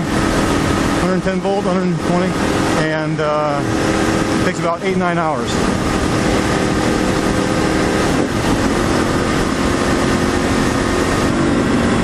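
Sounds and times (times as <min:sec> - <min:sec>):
motorcycle engine hum: 0:00.0 - 0:12.0
wind rushing over microphone: 0:00.0 - 0:12.0.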